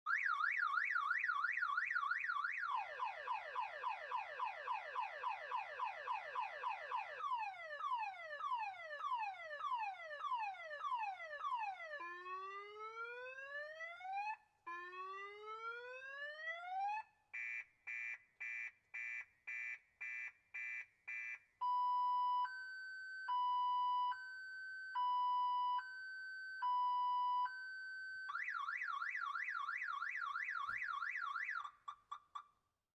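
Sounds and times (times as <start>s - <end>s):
car alarm siren: 0.1s - 32.5s.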